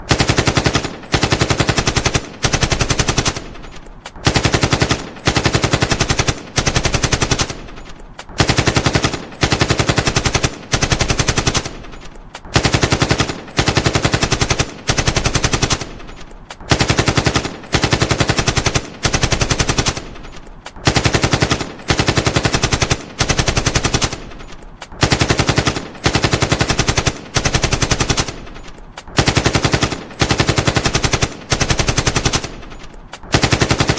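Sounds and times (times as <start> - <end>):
rifle firing rapid bursts: 0.0 - 33.9.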